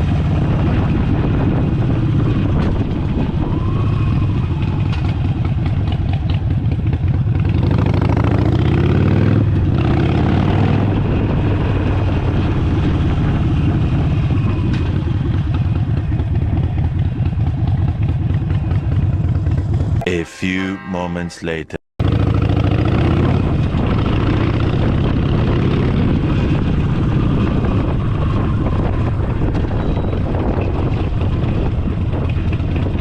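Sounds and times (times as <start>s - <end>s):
motorcycle engine running: 0.0s - 20.0s, 22.0s - 33.0s.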